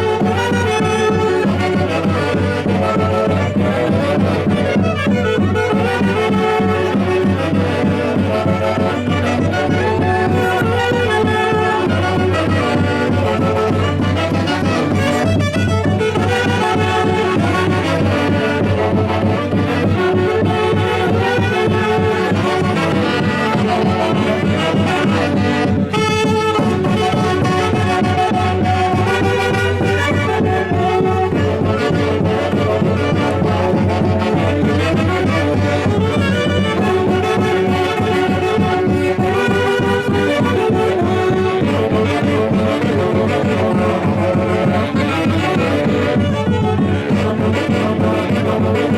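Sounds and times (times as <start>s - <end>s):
wind band music: 0.0s - 48.9s.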